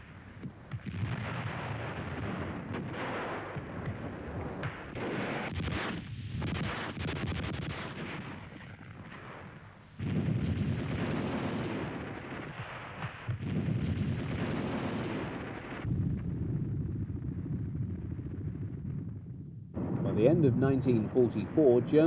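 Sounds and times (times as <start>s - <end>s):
loud explosion blasts: 0.7s - 22.0s.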